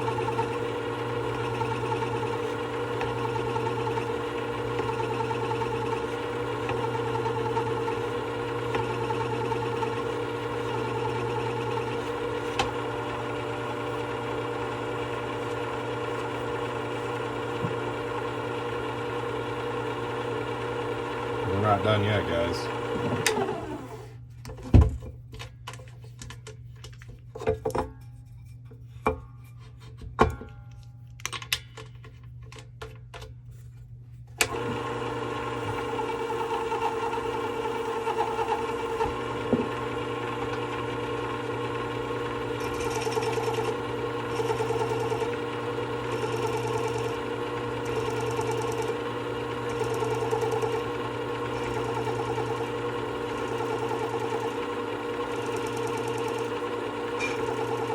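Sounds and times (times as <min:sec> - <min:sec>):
sharpener motor humming: 0:00.0 - 0:24.1, 0:34.4 - 0:57.9.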